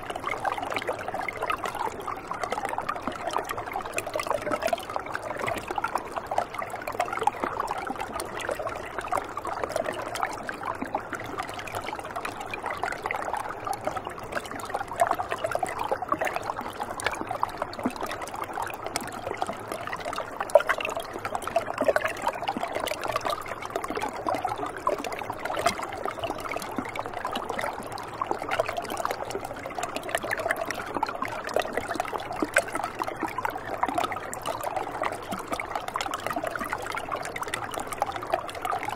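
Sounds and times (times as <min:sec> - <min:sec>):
river water gurgling over stones: 0:00.0 - 0:38.9.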